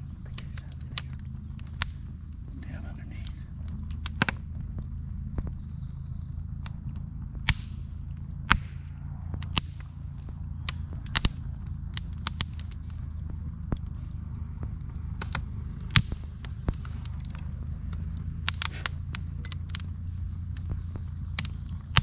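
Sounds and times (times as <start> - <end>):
firecrackers popping: 0.0 - 22.0
steady low hum: 0.0 - 22.0.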